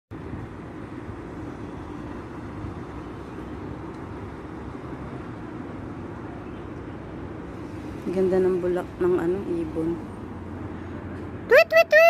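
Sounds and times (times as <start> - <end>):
street traffic rumble: 0.1 - 12.0.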